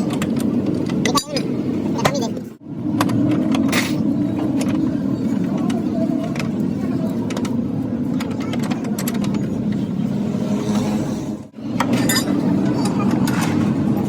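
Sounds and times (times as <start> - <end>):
motor vehicle running: 0.0 - 14.0.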